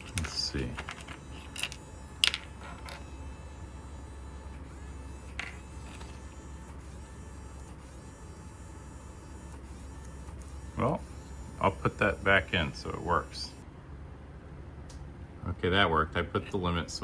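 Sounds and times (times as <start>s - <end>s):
small motor and plastic gears running: 0.0s - 13.6s.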